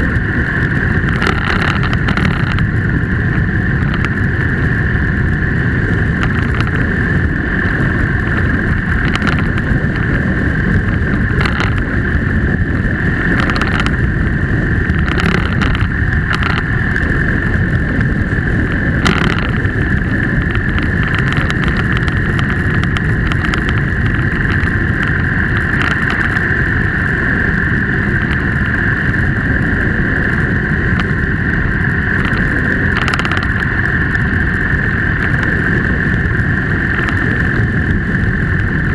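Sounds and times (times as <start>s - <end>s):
constant high hum: 0.0s - 38.9s
motorcycle engine and road rumble: 0.0s - 38.9s
wind buffeting: 0.0s - 38.9s.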